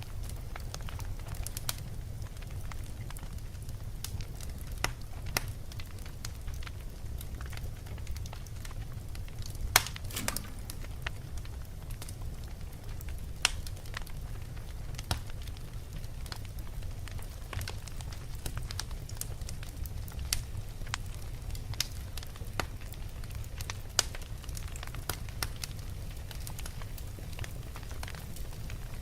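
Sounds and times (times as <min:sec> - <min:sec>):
fire crackling and popping: 0:00.0 - 0:29.0
fire rumbling: 0:00.0 - 0:29.0.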